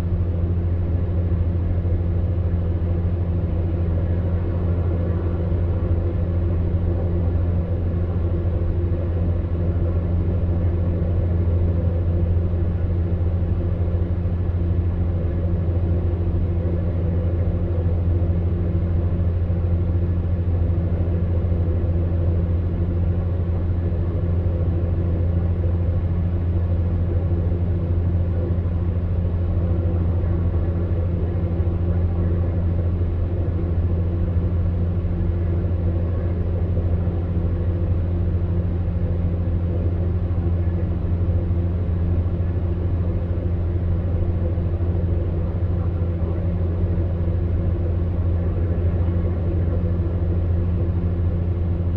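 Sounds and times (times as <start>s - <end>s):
fan heater humming: 0.0s - 51.9s.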